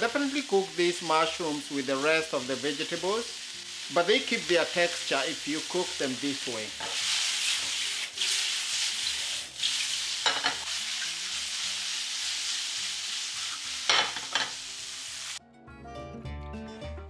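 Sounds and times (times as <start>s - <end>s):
mushrooms sizzling in oil: 0.0s - 15.4s.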